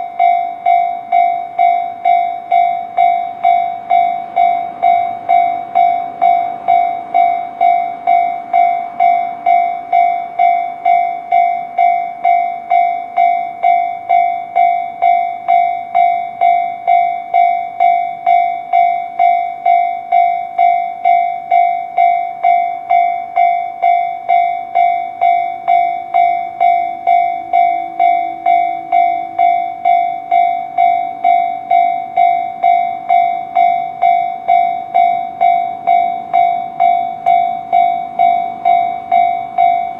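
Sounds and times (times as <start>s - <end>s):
bell striking evenly: 0.0s - 39.9s.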